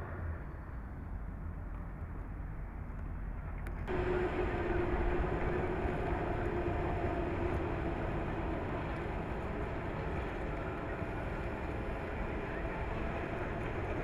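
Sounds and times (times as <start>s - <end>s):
excavator mechanical drone: 0.0s - 14.0s.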